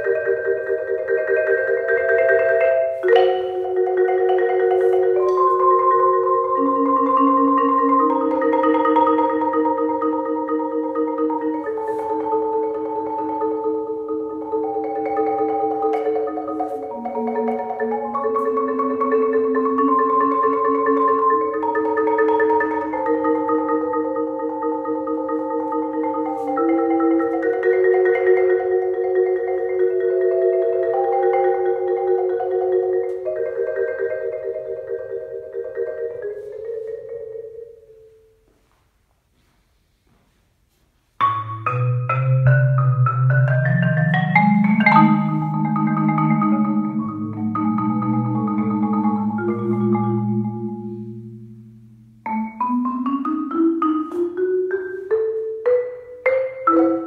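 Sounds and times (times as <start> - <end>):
marimba played with mallets: 0.0 - 38.4, 41.2 - 57.0.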